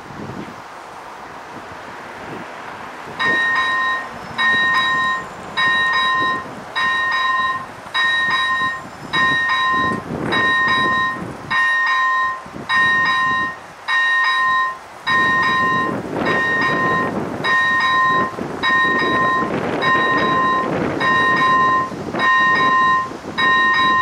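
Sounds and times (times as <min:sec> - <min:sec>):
level crossing warning bell: 0:03.2 - 0:24.0.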